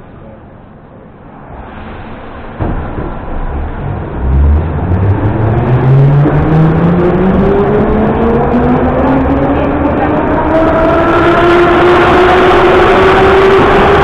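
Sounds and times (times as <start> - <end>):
metro train running noise: 0.0 - 14.0.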